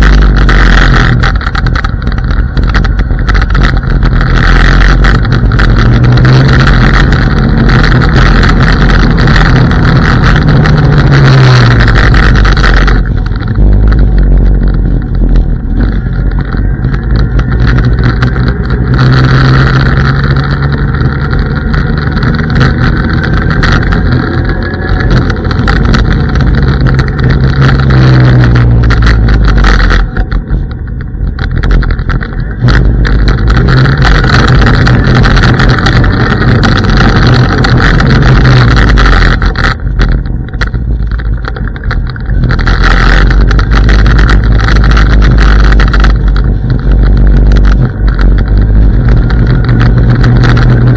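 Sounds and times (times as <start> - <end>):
scooter rolling rumble: 0.0 - 50.9.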